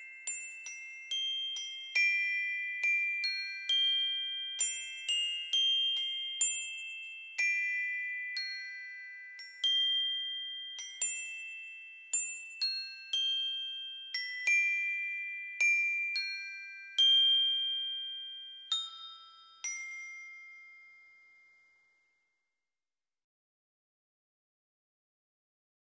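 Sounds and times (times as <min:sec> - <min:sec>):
slow bell-like music: 0:00.0 - 0:22.6.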